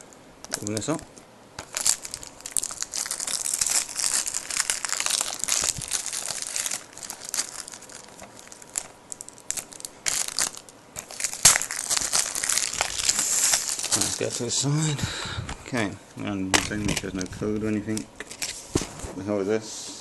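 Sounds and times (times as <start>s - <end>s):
plastic packaging crinkling: 0.0s - 1.0s, 1.6s - 14.6s, 16.6s - 18.9s.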